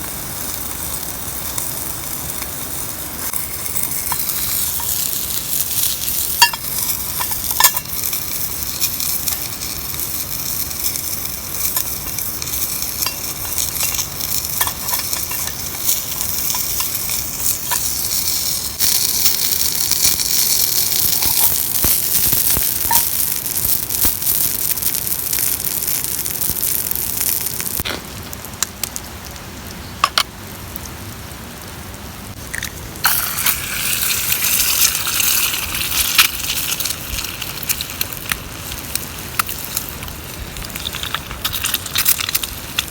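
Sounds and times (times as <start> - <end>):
food sizzling on hot plate: 0.0 - 29.0, 32.3 - 42.9.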